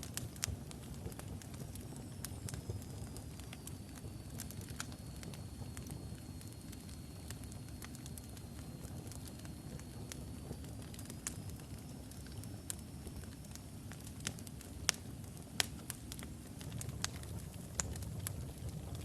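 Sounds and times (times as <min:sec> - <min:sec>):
fire crackling and popping: 0:00.0 - 0:19.0
low rumble of flame: 0:00.0 - 0:19.0.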